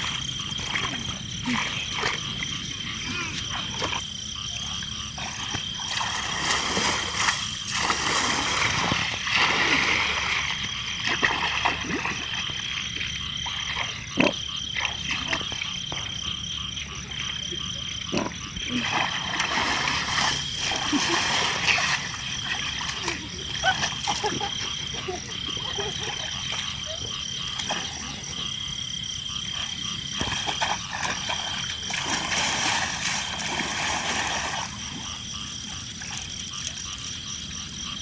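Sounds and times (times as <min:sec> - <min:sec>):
frogs croaking: 0:00.0 - 0:38.0
water splashing and sloshing: 0:00.0 - 0:38.0.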